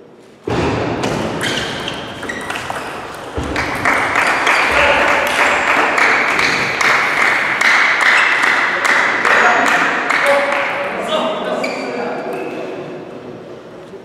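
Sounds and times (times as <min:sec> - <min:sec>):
hall background noise: 0:00.0 - 0:14.0.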